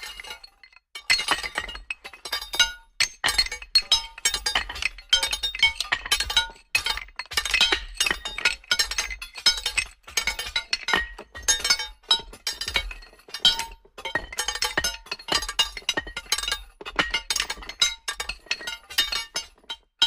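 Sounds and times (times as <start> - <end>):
metal tools striking rock: 0.0 - 20.0.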